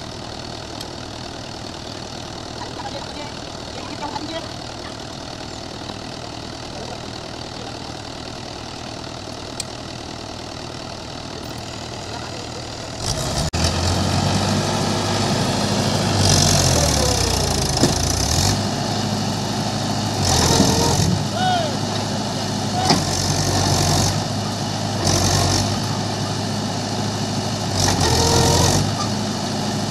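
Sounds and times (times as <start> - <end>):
tractor diesel engine revving: 0.0 - 29.9.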